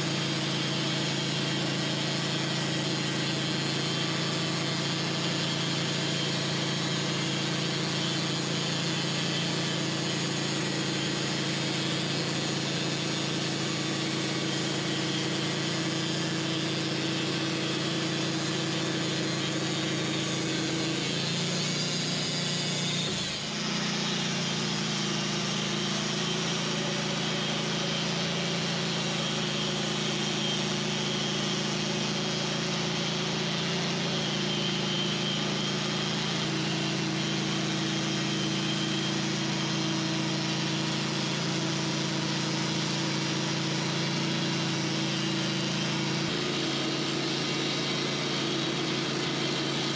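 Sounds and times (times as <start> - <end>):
band sawmill engine hum: 0.0 - 49.9.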